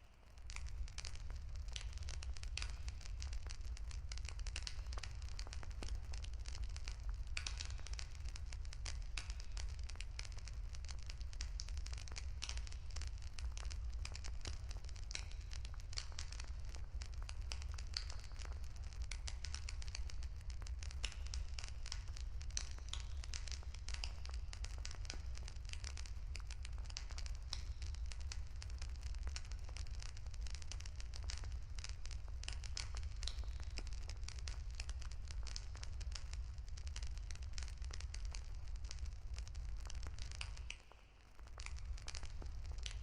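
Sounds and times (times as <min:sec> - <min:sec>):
wood campfire crackling: 0:00.2 - 0:43.0.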